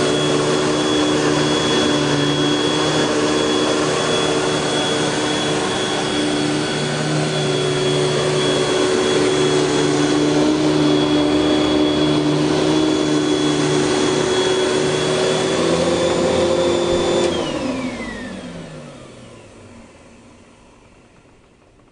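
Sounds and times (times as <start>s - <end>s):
vacuum cleaner motor whining: 0.0s - 21.9s.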